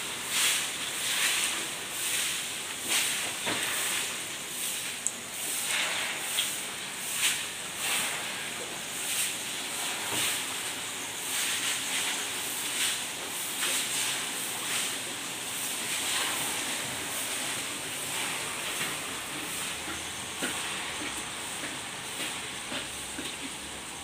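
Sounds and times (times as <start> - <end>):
hot oil sizzling in wok: 0.0 - 24.0.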